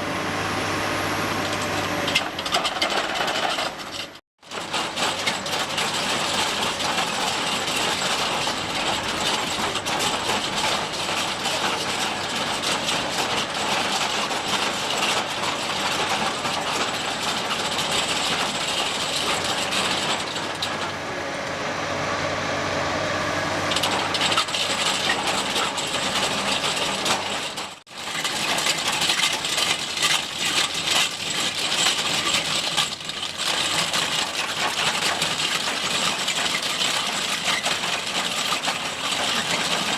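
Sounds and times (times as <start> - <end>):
excavator engine running: 0.0 - 39.9
rock grinder crunching rock: 1.2 - 39.9.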